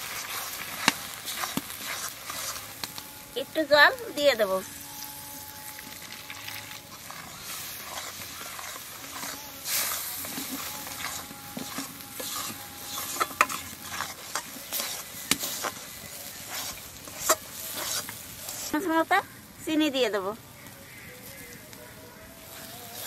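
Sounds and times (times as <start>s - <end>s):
metal spatula scraping a pan: 0.0s - 19.1s
spice paste sizzling in a pan: 0.0s - 23.0s.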